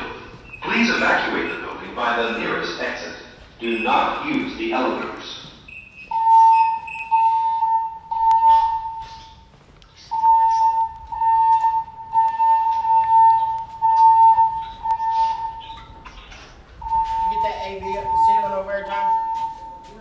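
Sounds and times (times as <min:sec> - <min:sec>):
pulsed fire alarm tone: 0:00.0 - 0:20.0.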